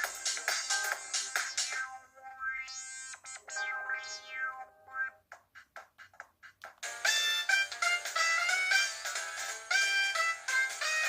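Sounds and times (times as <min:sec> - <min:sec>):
electronic phone melody: 0:00.0 - 0:05.4, 0:06.8 - 0:11.0.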